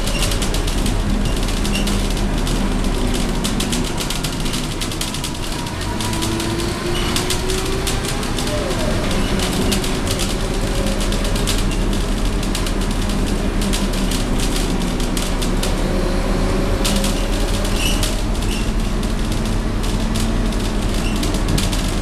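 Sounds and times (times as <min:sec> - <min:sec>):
bus body clicks and rattles: 0:00.0 - 0:22.0
bus engine drone: 0:00.0 - 0:22.0.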